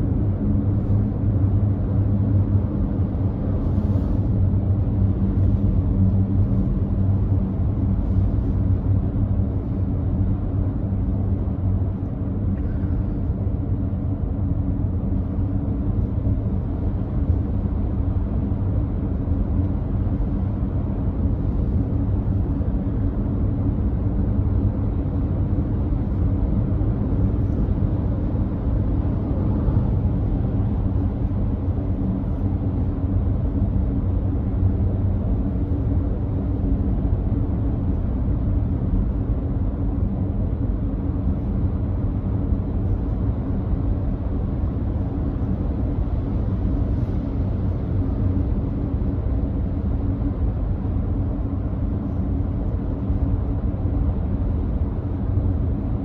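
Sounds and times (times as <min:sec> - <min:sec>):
low hum: 0:00.0 - 0:56.0
road and tyre noise in car: 0:00.0 - 0:56.0.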